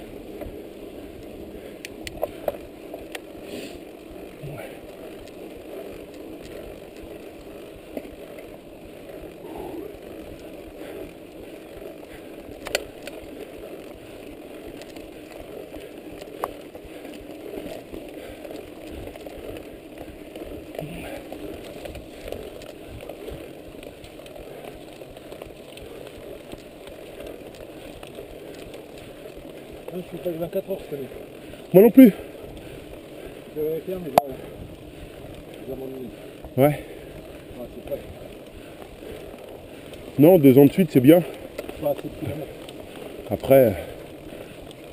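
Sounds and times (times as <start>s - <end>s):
bike tyres rolling on dirt: 0.0s - 44.9s
rattling drivetrain: 0.0s - 44.9s.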